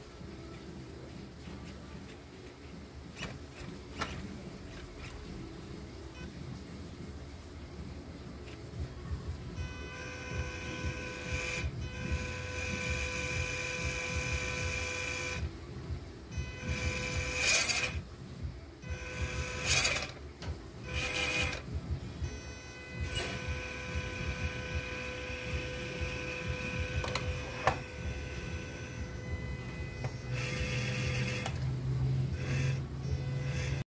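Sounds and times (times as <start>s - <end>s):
electric motor and gears whining: 0.0s - 6.4s, 9.6s - 15.6s, 16.3s - 18.1s, 18.8s - 33.9s.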